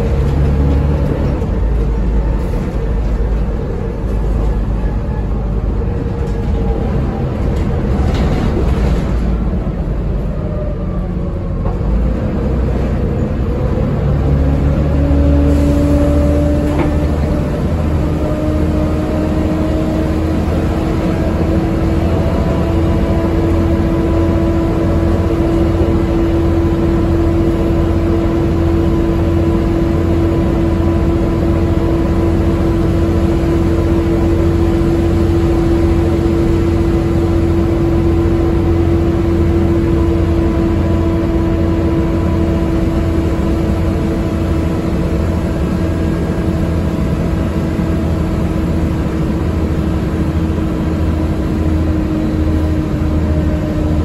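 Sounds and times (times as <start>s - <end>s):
bus diesel engine whine: 0.0s - 54.0s.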